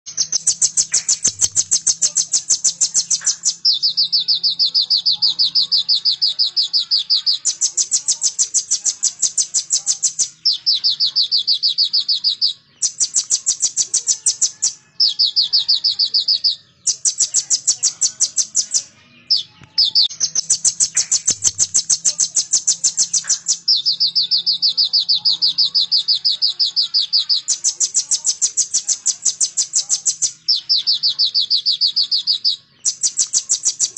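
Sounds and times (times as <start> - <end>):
bird singing fast high trill: 0.1 - 33.9.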